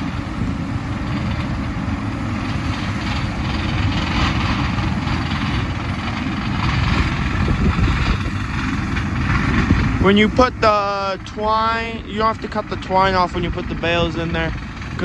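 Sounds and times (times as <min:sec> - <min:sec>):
tractor engine running: 0:00.0 - 0:15.0
bale processor shredding straw: 0:00.1 - 0:15.0.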